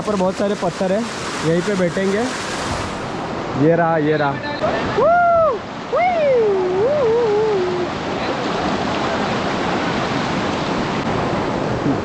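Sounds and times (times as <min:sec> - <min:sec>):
rushing stream over stones: 0:00.0 - 0:12.0.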